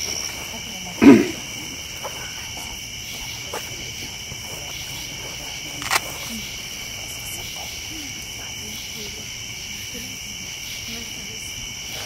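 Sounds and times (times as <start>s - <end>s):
campfire crackles: 0.0s - 11.8s
night insects chorus: 0.0s - 12.0s.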